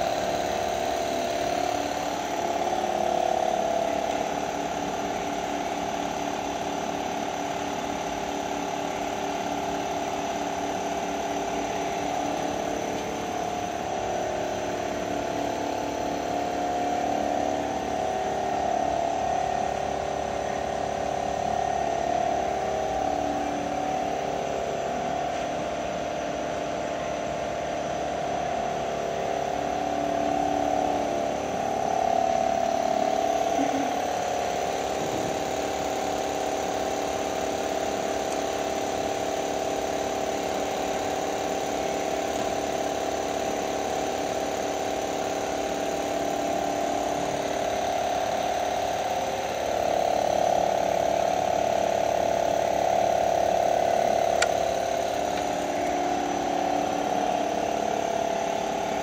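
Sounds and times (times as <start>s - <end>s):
welding machine rattling buzz: 0.0s - 18.1s, 29.2s - 59.0s.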